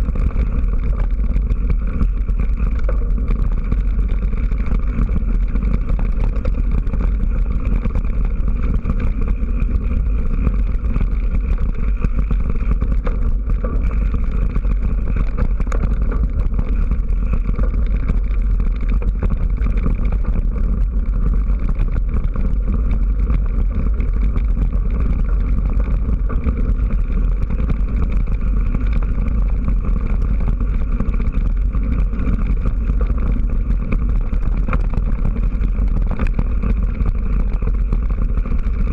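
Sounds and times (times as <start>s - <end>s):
bike tyres rumbling on gravel: 0.0s - 38.9s
wind on microphone: 0.0s - 38.9s.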